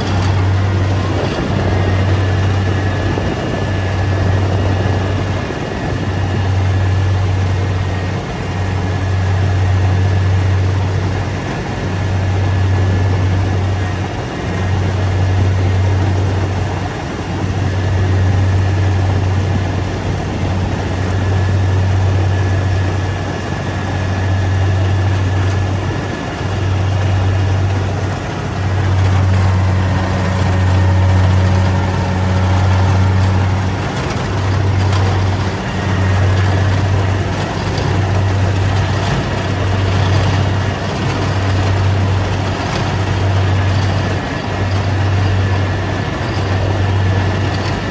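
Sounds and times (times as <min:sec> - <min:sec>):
combine harvester engine drone: 0:00.0 - 0:47.9
machinery clatter and rush: 0:00.0 - 0:47.9.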